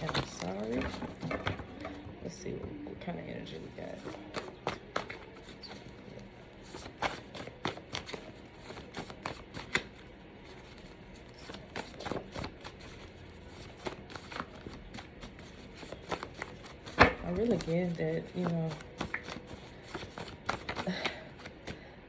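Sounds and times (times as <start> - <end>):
cards being shuffled: 0.0 - 2.0, 3.9 - 6.0, 6.6 - 21.8.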